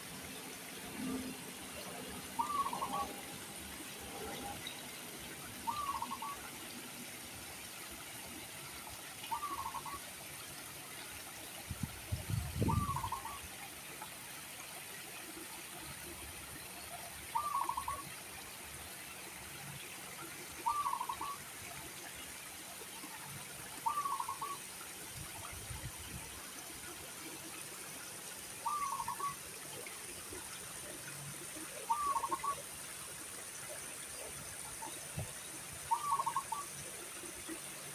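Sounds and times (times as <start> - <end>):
steady background hiss: 0.0 - 37.9.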